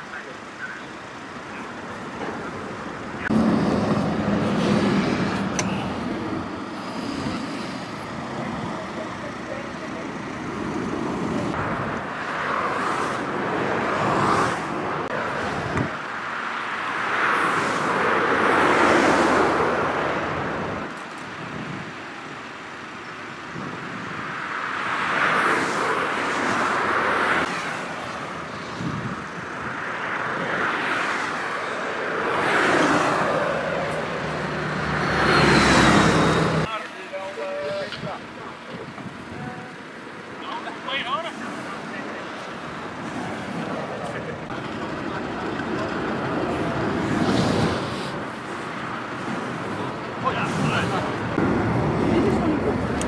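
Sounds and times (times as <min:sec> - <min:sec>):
motorway traffic passing: 0:00.0 - 0:53.0.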